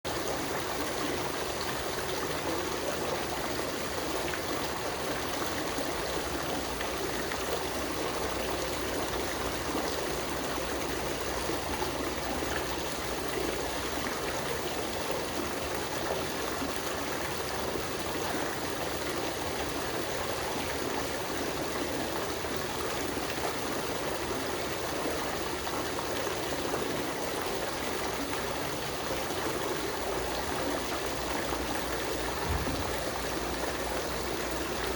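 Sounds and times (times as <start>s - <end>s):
water fountain splashing: 0.1s - 34.9s.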